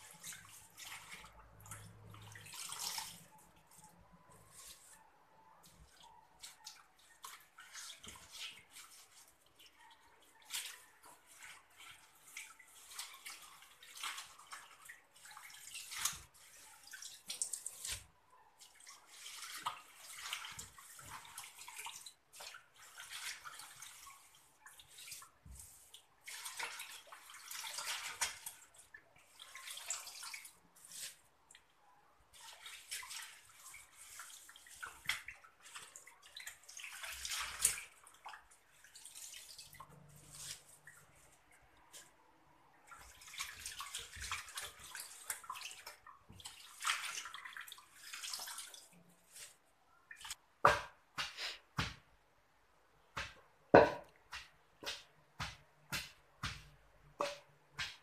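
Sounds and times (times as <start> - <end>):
leaves rubbed in water: 0.0 - 31.4, 32.4 - 42.2, 42.9 - 50.4
water splashing and sloshing: 0.0 - 58.0.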